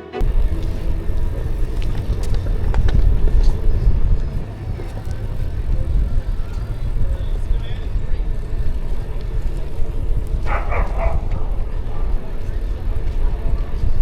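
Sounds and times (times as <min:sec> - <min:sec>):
tyre and road noise: 0:00.0 - 0:14.0
wind buffeting microphone: 0:00.2 - 0:14.0.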